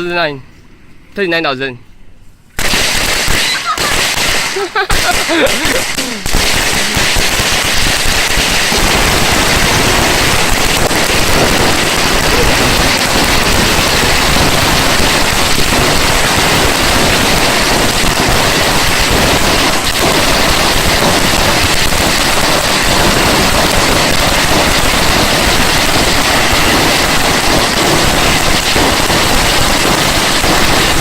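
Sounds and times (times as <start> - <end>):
firecrackers crackling: 2.6 - 31.0.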